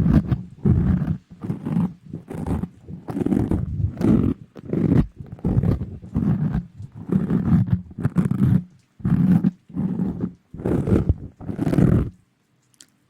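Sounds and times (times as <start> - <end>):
rustling and rubbing on microphone: 0.0 - 12.7.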